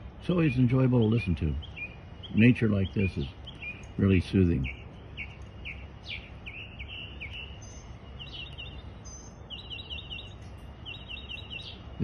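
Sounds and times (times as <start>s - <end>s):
mockingbird singing: 0.0s - 12.0s.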